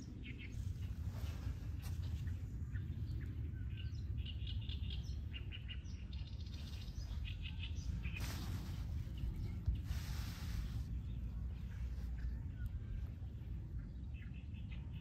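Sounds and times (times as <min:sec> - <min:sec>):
songbirds chirping: 0:00.0 - 0:15.0
wind rumbling on microphone: 0:00.0 - 0:15.0.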